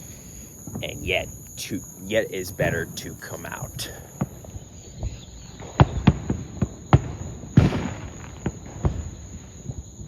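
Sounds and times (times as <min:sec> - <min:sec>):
crickets trilling: 0:00.0 - 0:10.0
distant fireworks bangs: 0:00.0 - 0:10.0.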